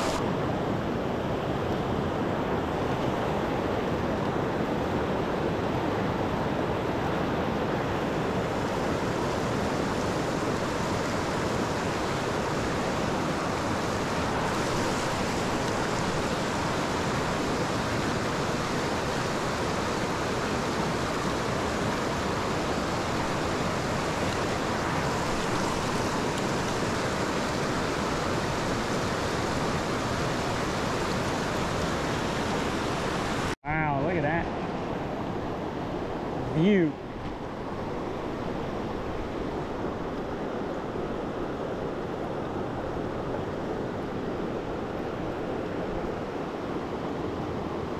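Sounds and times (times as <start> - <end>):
river rapids rushing over rocks: 0.0 - 0.2, 6.5 - 47.9.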